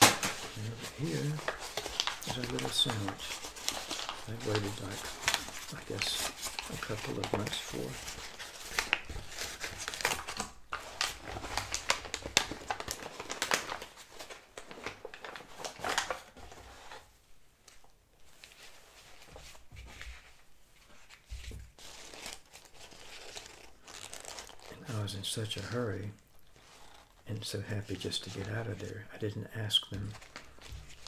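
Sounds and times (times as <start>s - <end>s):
paper bag crinkling and rustling: 0.0s - 17.1s, 17.7s - 29.1s, 29.8s - 31.0s.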